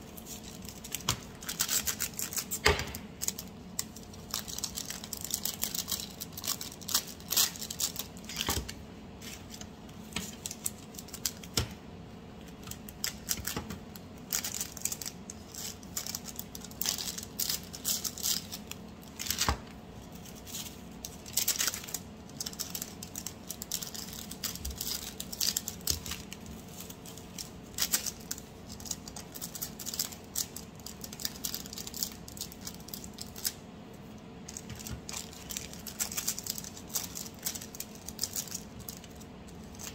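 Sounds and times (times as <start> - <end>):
faint steady hum: 0.0 - 39.9
plastic bags crinkling: 0.1 - 11.6, 12.6 - 33.6, 34.4 - 39.9.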